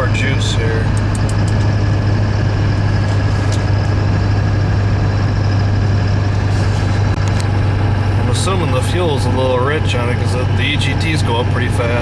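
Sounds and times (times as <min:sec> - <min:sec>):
diesel engine and road drone: 0:00.0 - 0:12.0.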